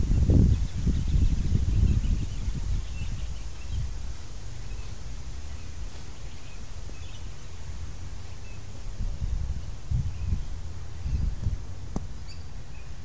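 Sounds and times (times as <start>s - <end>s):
faint bird chirps: 0.0s - 4.0s, 4.6s - 11.4s, 12.2s - 13.0s.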